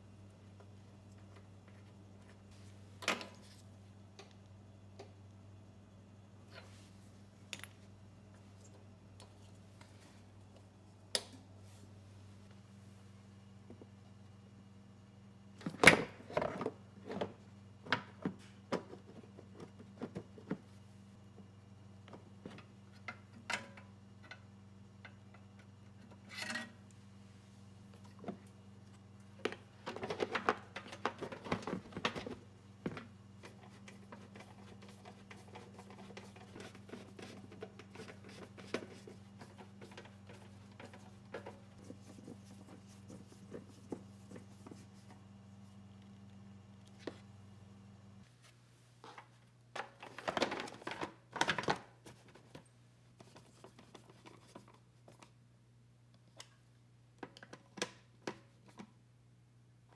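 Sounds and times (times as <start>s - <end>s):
steady low hum: 0.0s - 50.1s.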